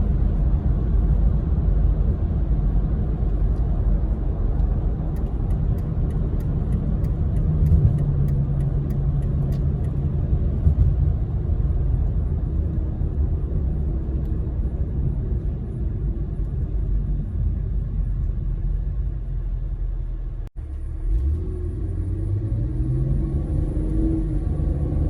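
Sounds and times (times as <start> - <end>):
car engine drone: 0.0 - 25.0
road noise: 0.0 - 25.0.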